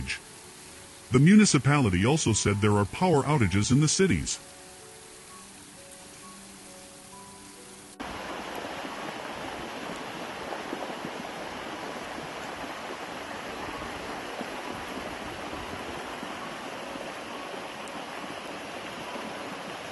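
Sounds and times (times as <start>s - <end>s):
flood water rushing: 0.0s - 19.9s.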